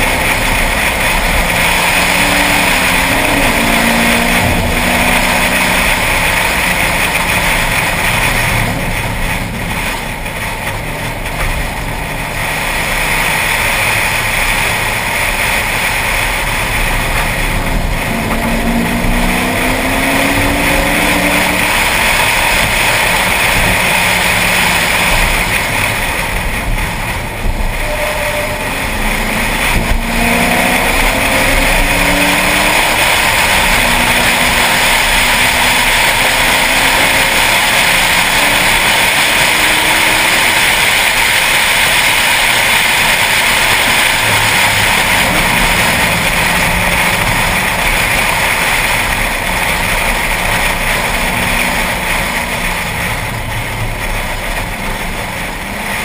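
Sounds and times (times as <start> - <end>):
car engine revving hard: 0.0 - 56.0
wind and road noise: 0.0 - 56.0.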